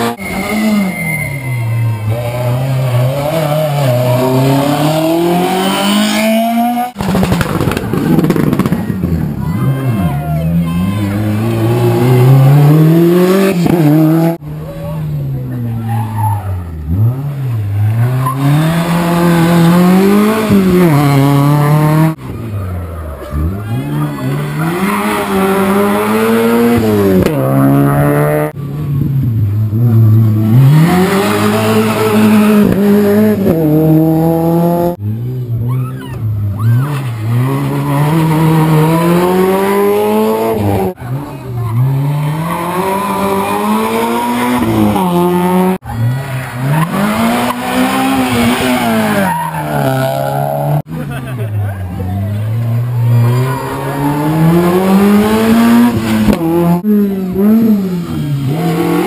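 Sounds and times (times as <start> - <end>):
rally cars racing past: 0.0 - 59.0.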